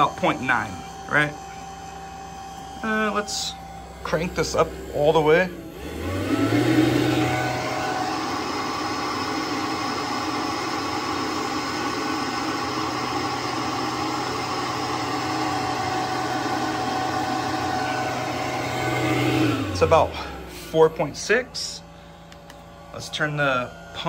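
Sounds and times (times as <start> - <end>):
blower running: 0.0 - 24.0.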